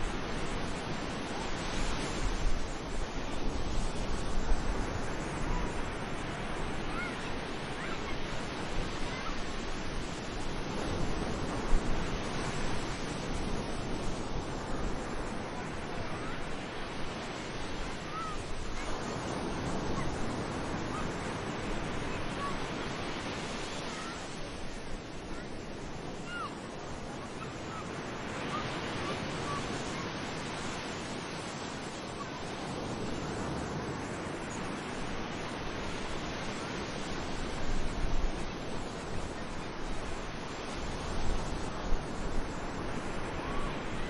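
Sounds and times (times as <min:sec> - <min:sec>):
surf washing onto beach: 0:00.0 - 0:44.0.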